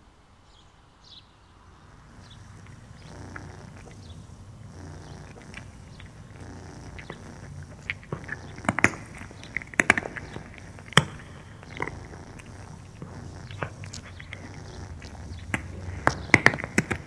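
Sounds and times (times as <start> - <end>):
cat crunching dry kibble: 1.9 - 17.0.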